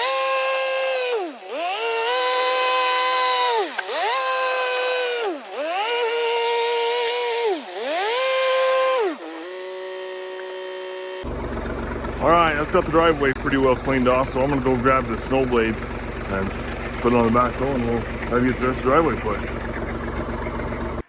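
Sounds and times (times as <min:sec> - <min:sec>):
backhoe diesel engine revving: 0:00.0 - 0:21.0.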